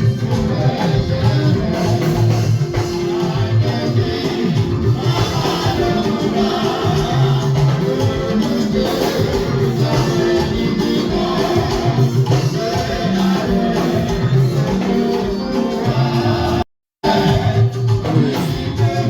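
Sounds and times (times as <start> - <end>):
congregation singing a hymn: 0.0 - 19.0
instrumental and percussion accompaniment: 0.0 - 19.0.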